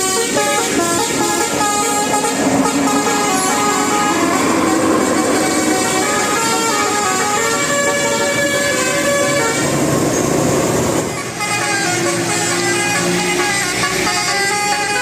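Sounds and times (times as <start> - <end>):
musical bus horn playing tune: 0.0 - 10.1, 11.0 - 15.0.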